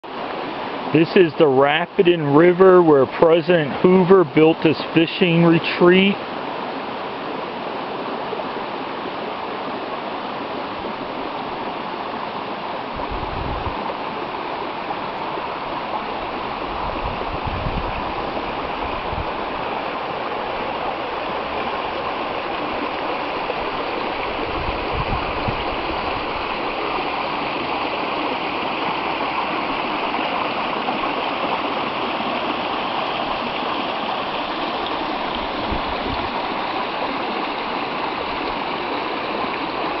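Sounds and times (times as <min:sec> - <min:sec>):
stream rushing over stones: 0:00.0 - 0:40.0.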